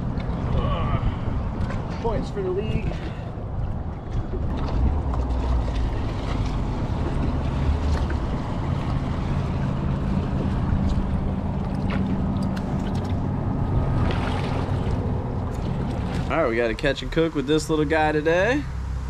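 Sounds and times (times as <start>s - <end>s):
wind buffeting microphone: 0.0s - 16.9s
boat engine idling: 0.0s - 18.6s.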